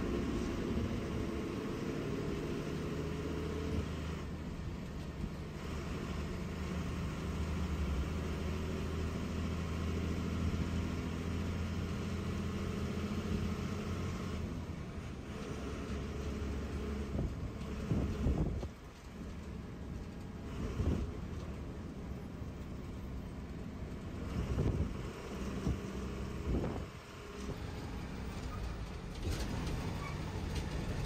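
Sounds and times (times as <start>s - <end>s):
bus engine drone: 0.0s - 31.0s
road and tyre noise: 0.0s - 31.0s.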